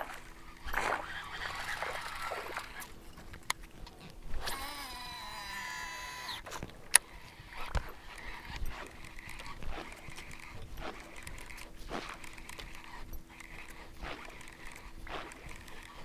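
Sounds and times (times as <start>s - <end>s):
lure chopping and splashing water: 0.0s - 4.5s, 6.3s - 16.0s.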